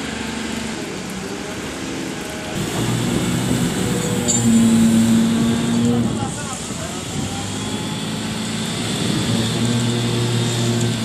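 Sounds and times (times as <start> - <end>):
forklift and crane engines running: 0.0 - 11.0.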